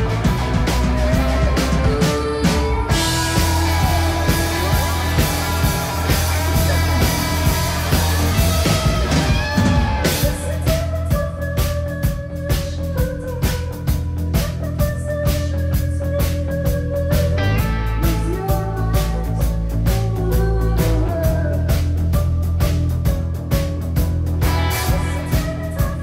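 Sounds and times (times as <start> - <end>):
drum kit beating: 0.0 - 26.0
live rock band playing: 0.0 - 26.0.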